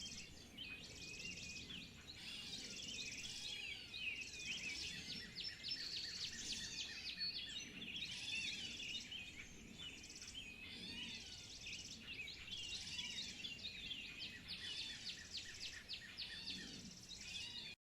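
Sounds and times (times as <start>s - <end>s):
small birds chirping: 0.0s - 17.8s.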